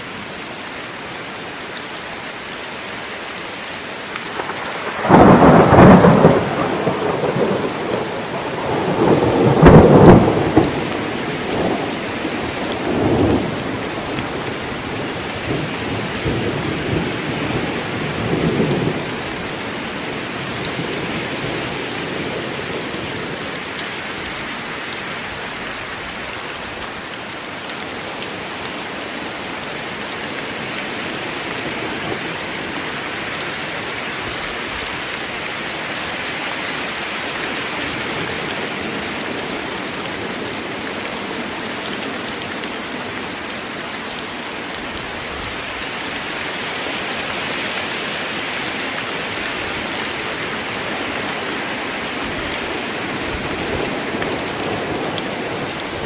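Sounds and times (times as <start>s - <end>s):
steady rain on leaves: 0.0s - 56.0s.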